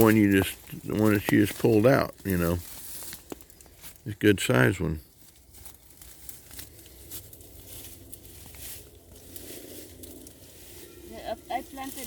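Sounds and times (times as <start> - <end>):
hands digging through mulch: 0.0 - 12.0.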